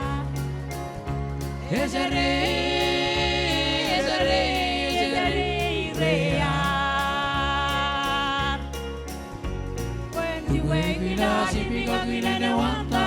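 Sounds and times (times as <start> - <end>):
backing track with bass and beat: 0.0 - 13.0.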